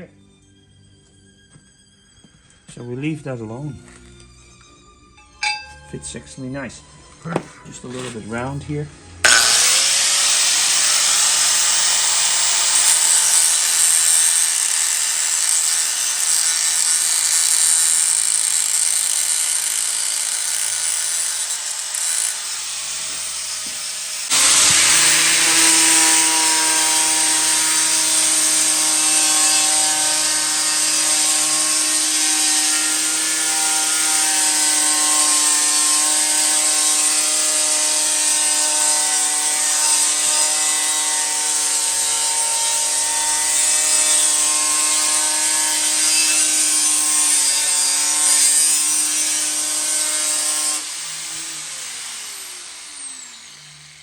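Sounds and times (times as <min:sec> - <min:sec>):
power tool cutting metal: 0:07.9 - 0:54.0.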